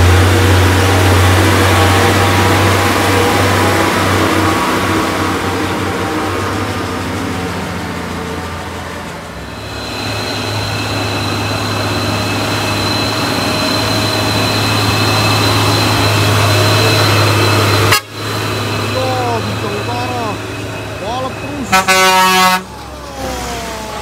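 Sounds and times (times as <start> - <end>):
high steady whine: 0.0 - 24.0
truck diesel engine drone: 0.0 - 24.0.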